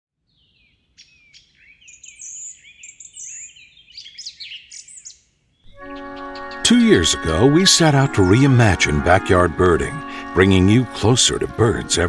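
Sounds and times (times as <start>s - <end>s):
birds chirping and singing: 0.4s - 12.0s.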